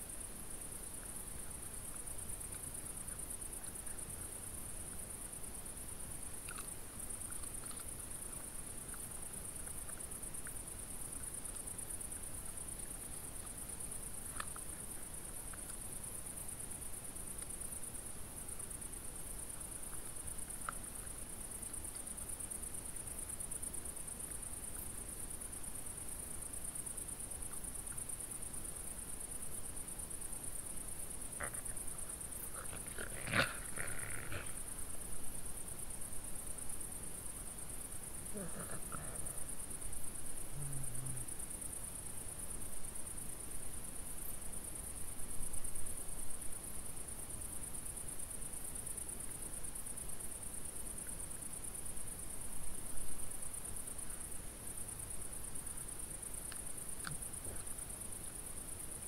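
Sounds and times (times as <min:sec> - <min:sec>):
night insects chirring: 0:00.0 - 0:59.0.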